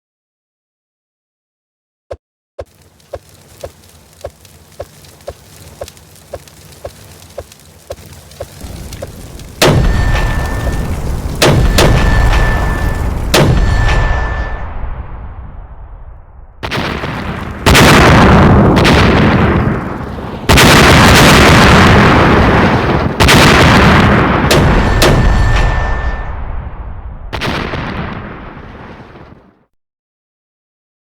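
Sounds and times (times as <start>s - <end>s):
low rumble: 2.9s - 28.5s
loud firework bangs: 3.1s - 29.4s.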